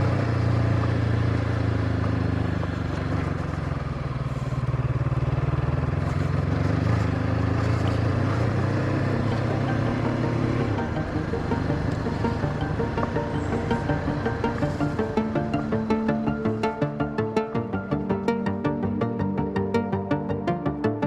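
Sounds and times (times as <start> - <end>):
motorcycle engine under load: 0.0 - 16.9.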